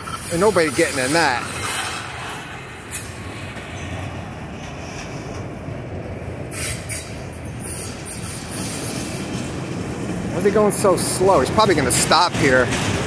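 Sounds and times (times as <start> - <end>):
freight cars rumbling on rails: 0.0 - 13.0.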